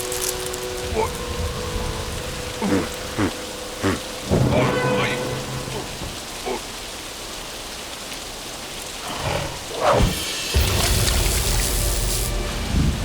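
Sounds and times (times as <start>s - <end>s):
cartoon rain: 0.0s - 13.0s.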